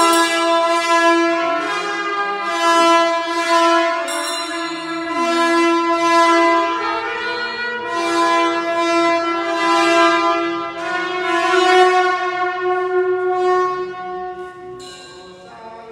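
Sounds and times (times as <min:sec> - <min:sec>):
loud droning tone: 0:00.0 - 0:15.9.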